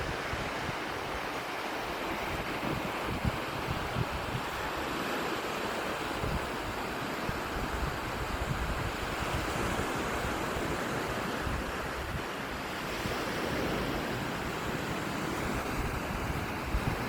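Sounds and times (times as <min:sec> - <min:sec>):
surf breaking on beach: 0:00.0 - 0:17.0
wind on microphone: 0:00.0 - 0:17.0.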